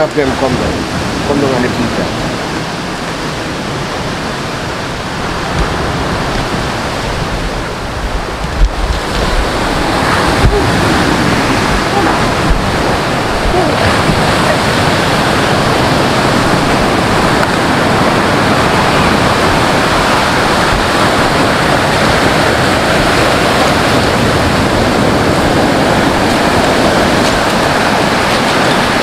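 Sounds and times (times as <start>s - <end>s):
sea surf rushing: 0.0s - 29.0s
wind buffeting microphone: 0.0s - 29.0s.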